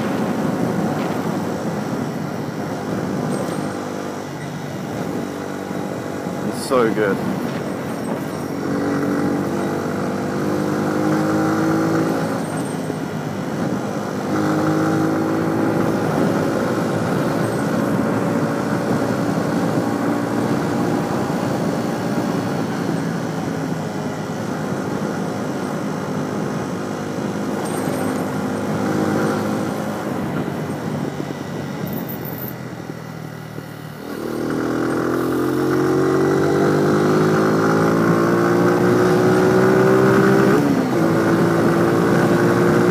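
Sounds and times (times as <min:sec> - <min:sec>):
motorcycle engine accelerating: 0:00.0 - 0:42.9
wind noise on microphone: 0:00.0 - 0:42.9.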